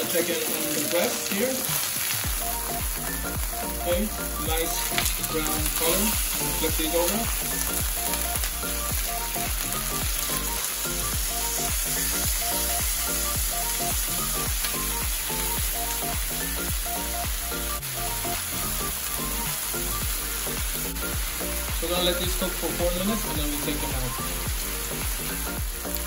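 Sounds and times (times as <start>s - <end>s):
chicken sizzling in frying pan: 0.0s - 26.0s.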